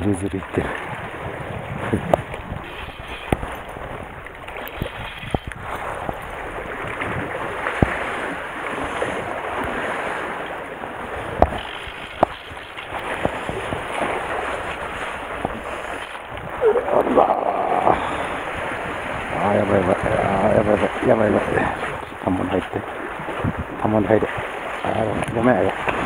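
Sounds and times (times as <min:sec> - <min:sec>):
sea water sloshing among concrete blocks: 0:00.0 - 0:26.0
wind on microphone: 0:00.4 - 0:26.0.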